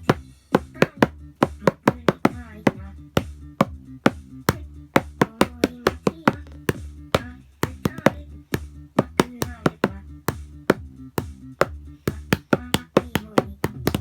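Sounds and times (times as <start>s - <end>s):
dry percussive taps: 0.0s - 14.0s
music backing track: 0.0s - 14.0s.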